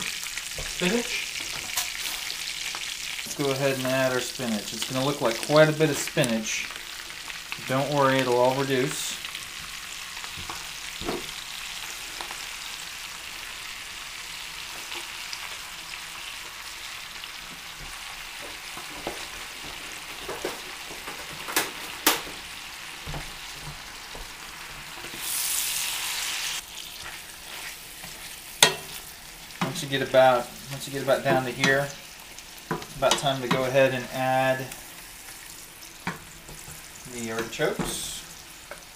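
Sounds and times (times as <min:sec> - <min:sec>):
spinach sizzling in a pan: 0:00.0 - 0:38.9.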